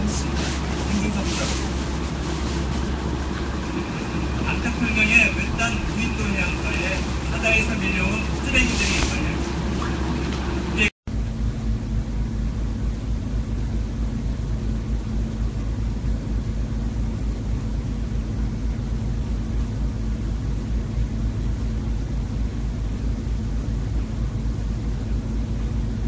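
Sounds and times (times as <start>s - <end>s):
faint constant hum: 0.0s - 26.0s
low rumbling noise: 0.0s - 26.0s.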